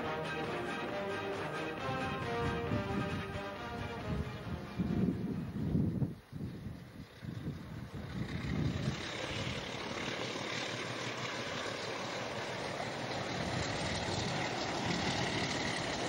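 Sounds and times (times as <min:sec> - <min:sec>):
diesel locomotive engine: 0:00.0 - 0:16.0.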